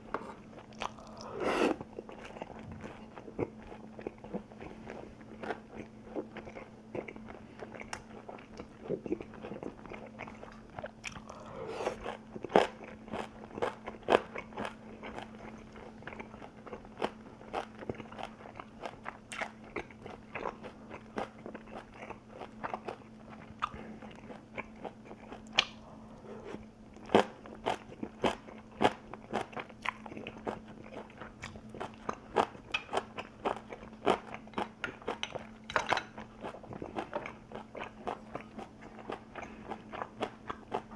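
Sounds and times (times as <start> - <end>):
chewing crunchy food: 0.0 - 40.9
low electrical hum: 0.0 - 40.9.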